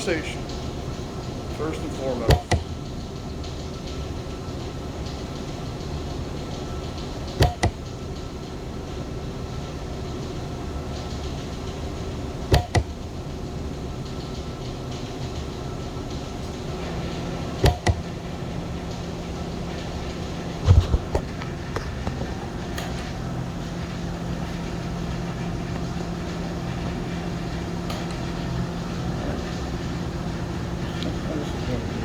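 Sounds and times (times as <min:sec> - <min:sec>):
machinery hum: 0:00.0 - 0:32.0.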